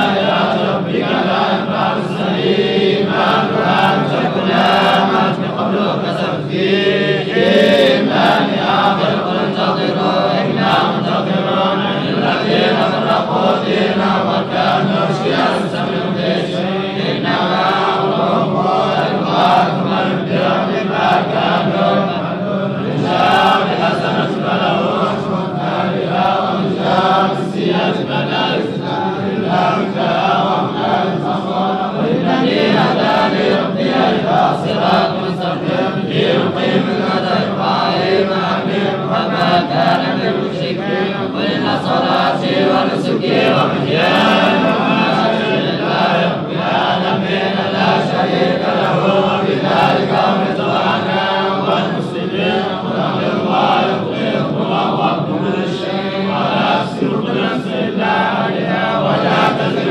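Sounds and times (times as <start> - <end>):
voices chanting recitation: 0.0 - 59.9.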